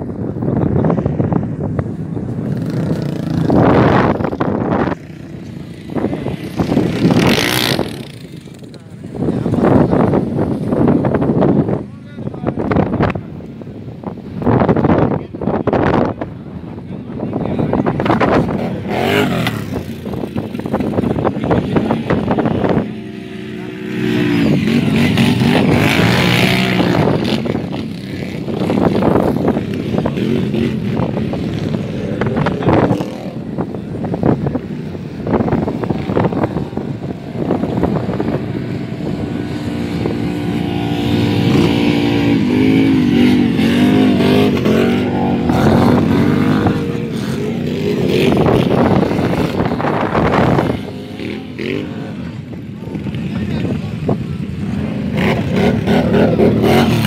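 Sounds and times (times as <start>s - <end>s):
quad bike engines revving: 0.0s - 57.0s
wind buffeting microphone: 0.0s - 57.0s.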